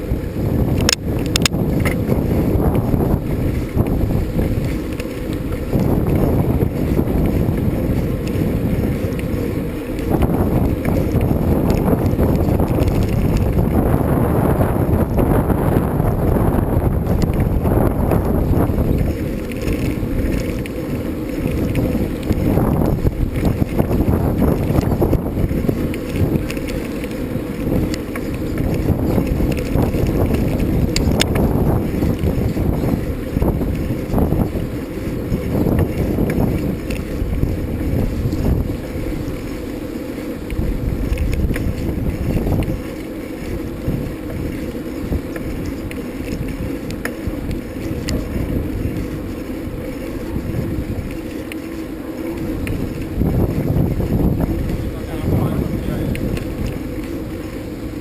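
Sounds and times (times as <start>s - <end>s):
wind buffeting the microphone: 0.0s - 58.0s.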